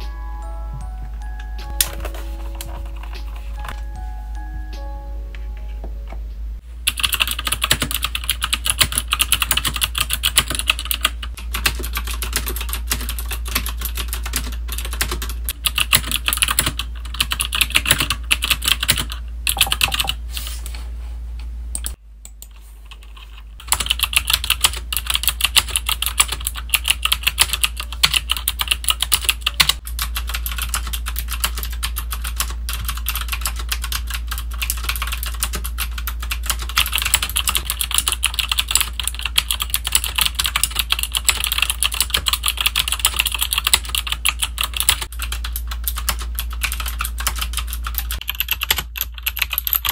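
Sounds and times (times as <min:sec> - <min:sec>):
mechanical keyboard typing: 0:06.8 - 0:20.2, 0:22.9 - 0:49.9.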